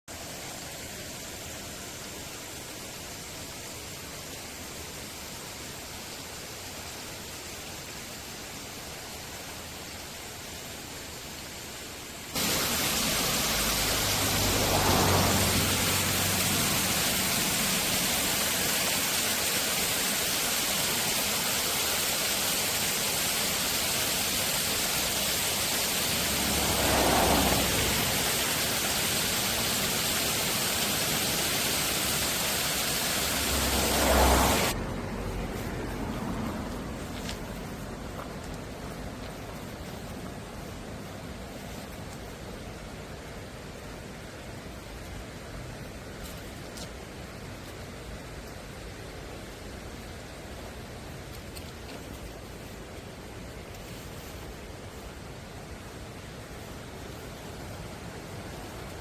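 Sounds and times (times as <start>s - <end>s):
mountain stream rushing: 0.1s - 59.0s.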